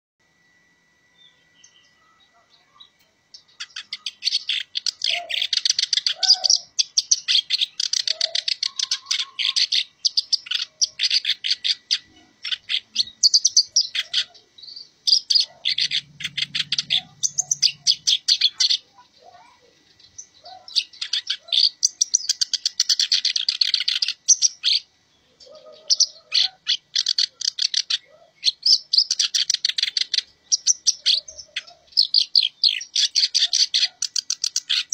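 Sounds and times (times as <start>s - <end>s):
bird singing chattering song: 1.1s - 34.9s.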